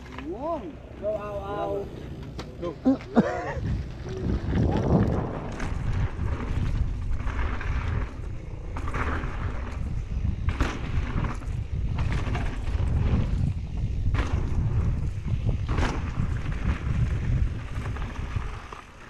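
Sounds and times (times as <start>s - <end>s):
bike rattling over bumps: 0.0s - 19.0s
tyres rumbling over dirt: 0.0s - 19.0s
wind buffeting microphone: 3.1s - 19.0s.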